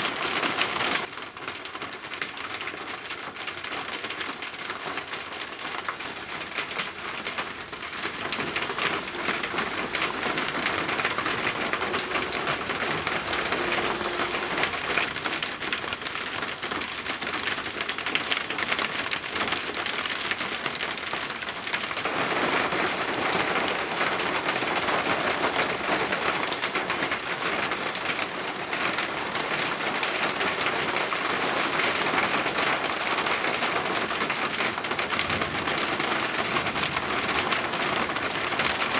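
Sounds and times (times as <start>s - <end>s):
heavy rain falling: 0.0s - 38.9s
raindrops striking hard surface: 0.0s - 38.9s.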